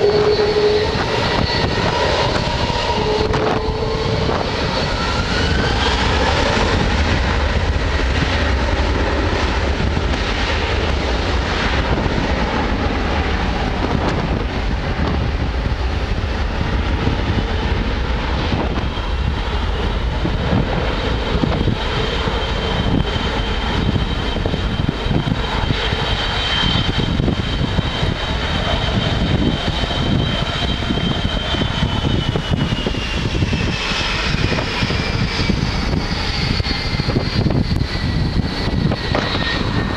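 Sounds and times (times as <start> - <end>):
jet engines roaring at takeoff: 0.0 - 39.9
wind rumbling on microphone: 0.0 - 39.9.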